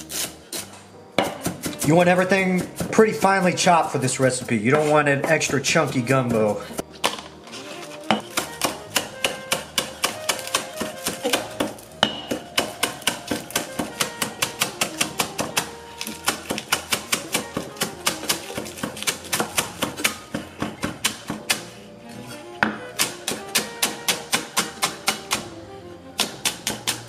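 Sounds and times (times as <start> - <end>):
knife chopping on cutting board: 0.0 - 7.2, 8.0 - 21.8, 22.6 - 25.5, 26.2 - 27.0
background music: 0.0 - 27.0.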